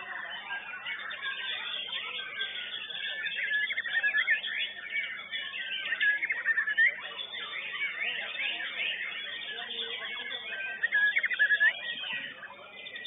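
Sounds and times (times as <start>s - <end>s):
bird song with whistles and trills: 0.0s - 13.0s.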